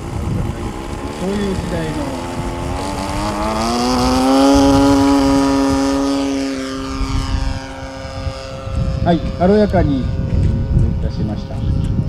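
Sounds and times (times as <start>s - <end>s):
model aircraft engine at full throttle: 0.0s - 12.0s.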